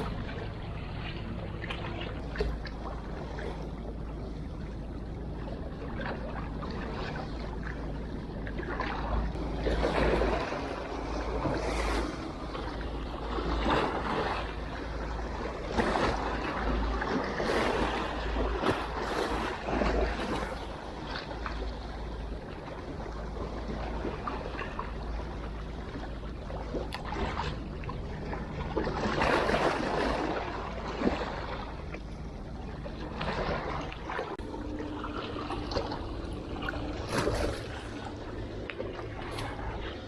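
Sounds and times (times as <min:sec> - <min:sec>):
seawater splashing and trickling: 0:00.0 - 0:40.0.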